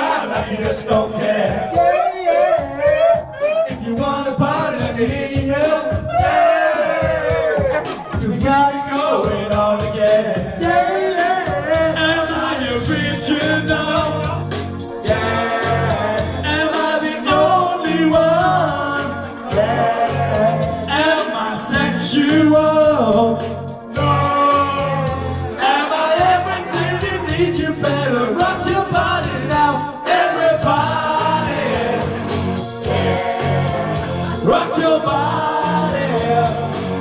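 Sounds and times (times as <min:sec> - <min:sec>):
men singing: 0:00.0 - 0:37.0
pop backing track: 0:00.0 - 0:37.0.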